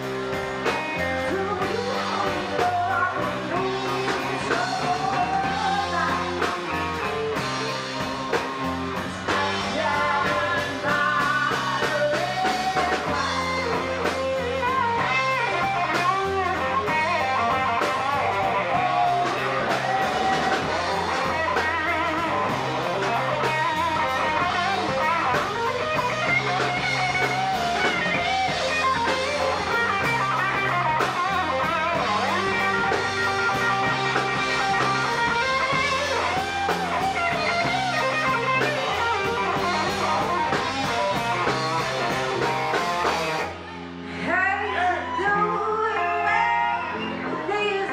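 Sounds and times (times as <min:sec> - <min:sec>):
electric guitar: 0:00.0 - 0:47.9
rock band playing live: 0:00.0 - 0:47.9.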